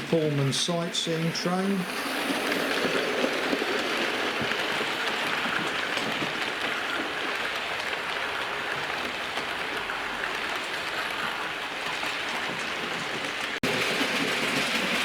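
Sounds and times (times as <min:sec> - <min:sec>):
model train wheels rolling on rail: 0:00.0 - 0:15.0.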